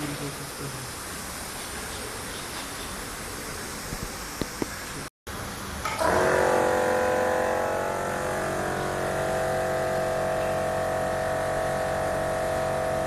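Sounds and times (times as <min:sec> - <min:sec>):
machinery electric hum: 0:00.0 - 0:13.0.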